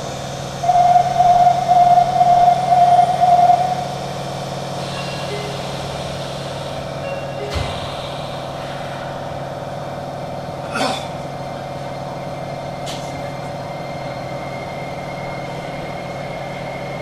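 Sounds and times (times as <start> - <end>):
train hum: 0.0 - 17.0.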